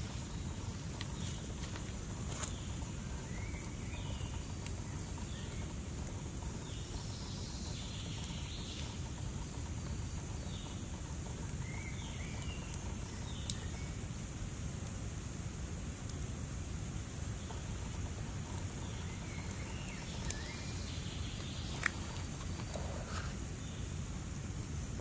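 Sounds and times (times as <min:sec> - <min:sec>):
birds chirping: 0:00.0 - 0:14.0, 0:17.4 - 0:24.0.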